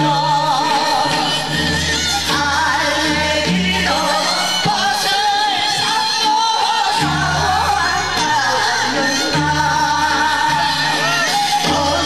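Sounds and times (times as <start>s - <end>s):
group singing folk song: 0.0s - 12.0s
musical accompaniment: 0.0s - 12.0s.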